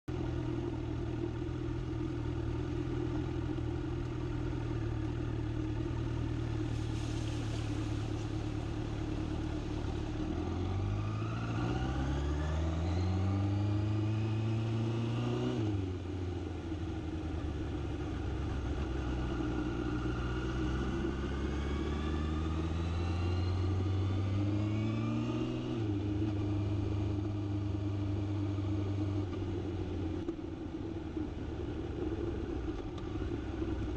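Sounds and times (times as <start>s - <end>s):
vehicle engine accelerating: 0.1s - 33.9s.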